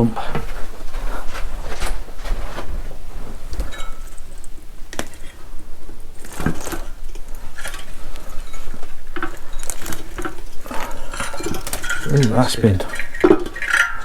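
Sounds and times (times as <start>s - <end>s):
wires rustling and scraping: 0.0s - 14.0s.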